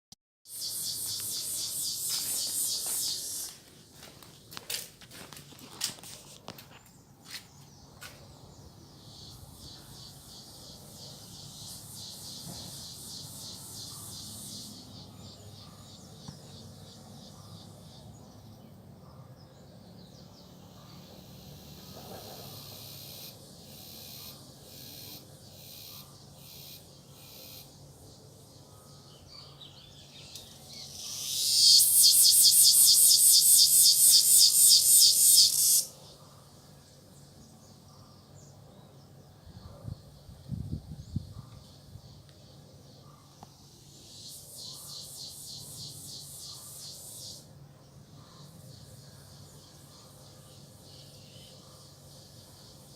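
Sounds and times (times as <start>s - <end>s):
loud pulsing cicada drone: 0.5s - 3.6s, 8.7s - 18.3s, 20.3s - 29.2s, 29.8s - 37.4s, 39.4s - 52.9s
cicadas buzzing: 0.5s - 4.5s, 7.2s - 18.2s, 20.2s - 29.0s, 29.7s - 37.5s, 40.2s - 52.9s.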